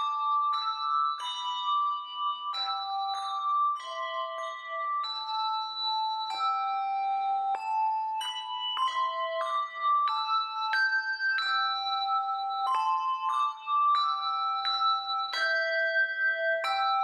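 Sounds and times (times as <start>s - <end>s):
handbell ensemble playing chords: 0.0s - 17.0s.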